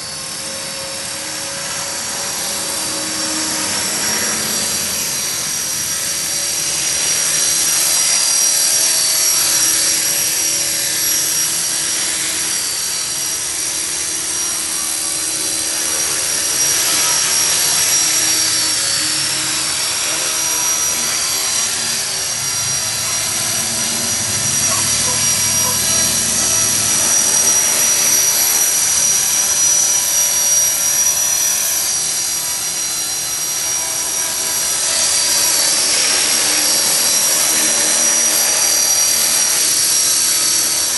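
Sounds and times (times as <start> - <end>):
rc helicopter motor whine: 0.0 - 40.9
rotor blades rushing: 0.0 - 40.9.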